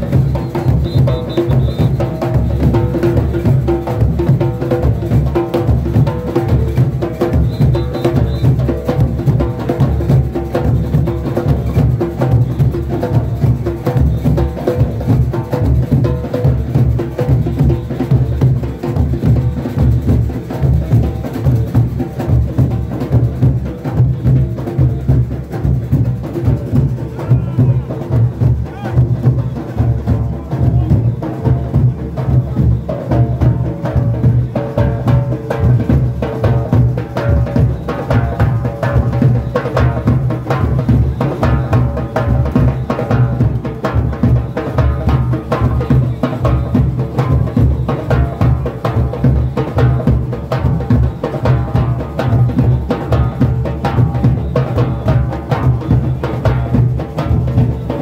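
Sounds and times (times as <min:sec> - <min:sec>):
drums beating: 0:00.0 - 0:58.0.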